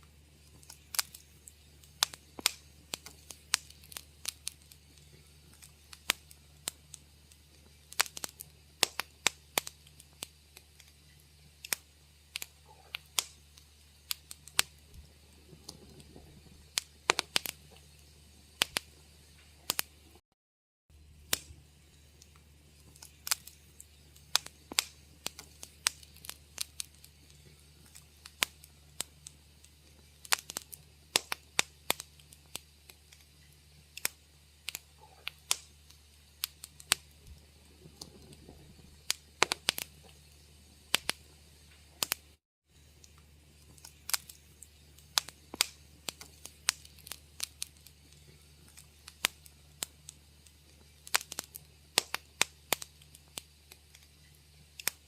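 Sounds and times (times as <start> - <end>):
low steady rumble: 0.0 - 20.2, 20.9 - 54.8
wood fire crackling: 0.0 - 20.2, 20.9 - 55.0.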